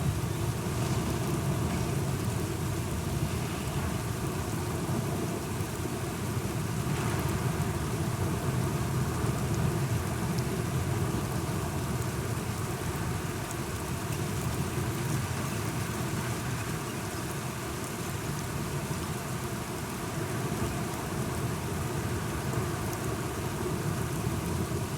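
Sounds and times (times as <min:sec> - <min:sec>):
steady rain: 0:00.0 - 0:24.9.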